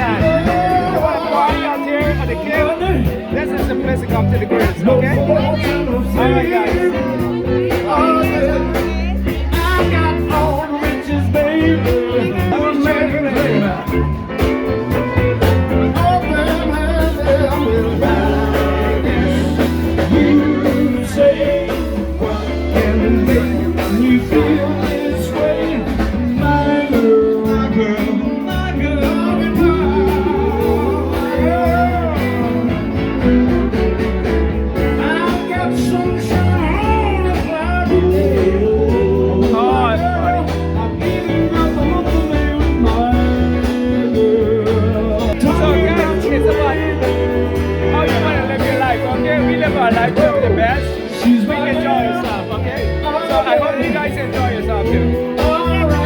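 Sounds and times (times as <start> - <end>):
electric guitar: 0.0 - 56.0
person singing: 0.0 - 56.0
steady bass line: 0.0 - 56.0.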